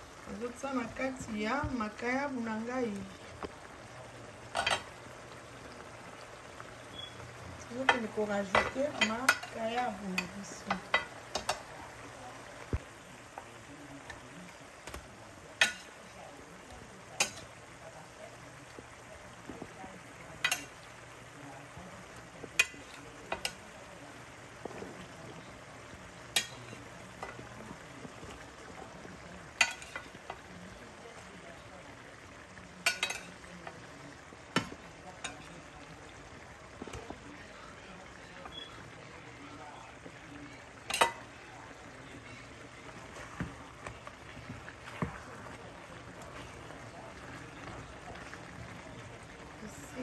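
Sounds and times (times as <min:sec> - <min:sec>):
oil sizzling in a frying pan: 0:00.0 - 0:50.0.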